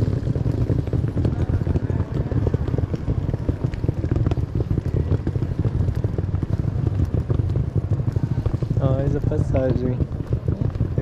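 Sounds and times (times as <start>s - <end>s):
suitcase wheels rattling over paving: 0.0s - 11.0s.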